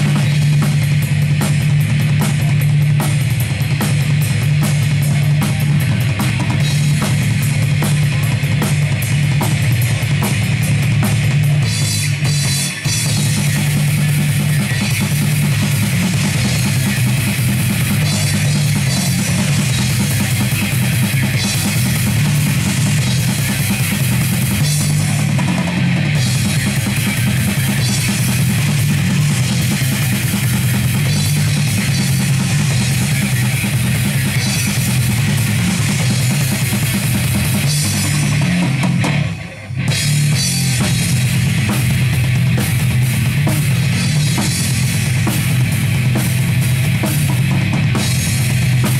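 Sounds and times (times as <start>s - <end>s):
heavy metal band playing: 0.0s - 48.9s.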